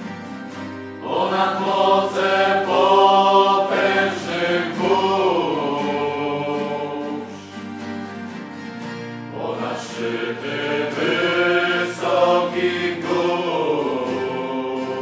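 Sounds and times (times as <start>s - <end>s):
choir singing: 1.0s - 7.7s, 9.3s - 15.0s.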